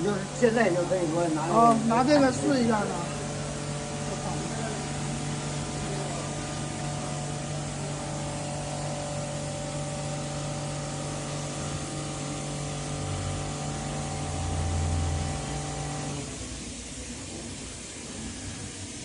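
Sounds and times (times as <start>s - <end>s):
grinding machine motor hum: 0.0s - 18.9s.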